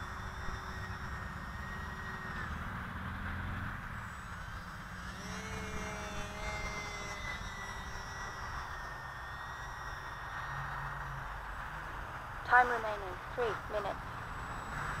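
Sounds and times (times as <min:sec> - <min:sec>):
electric motor and propeller whining: 0:00.0 - 0:15.0.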